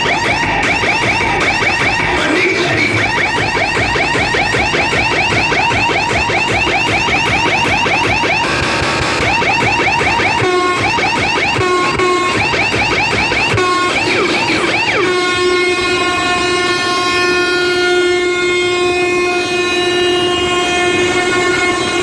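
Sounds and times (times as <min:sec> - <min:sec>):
electronic siren whoop: 0:00.0 - 0:22.0
horn-like blast: 0:03.0 - 0:22.0.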